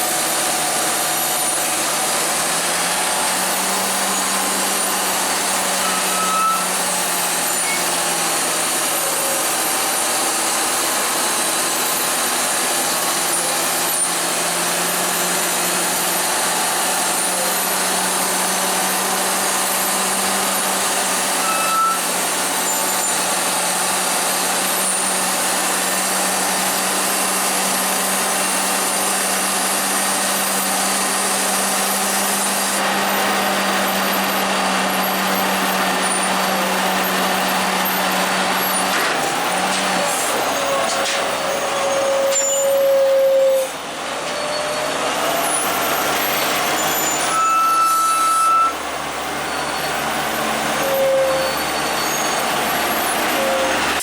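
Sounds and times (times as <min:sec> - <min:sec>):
heavy truck engine drone: 0:00.0 - 0:54.0.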